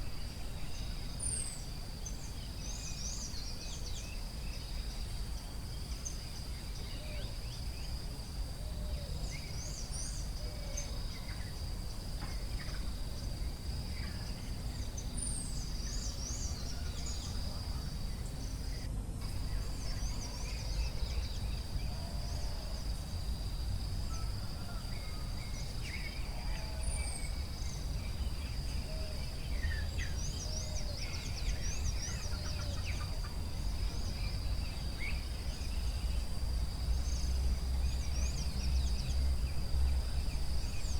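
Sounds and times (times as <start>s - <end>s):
insect drone: 0.0s - 40.9s
low background noise: 0.0s - 40.9s.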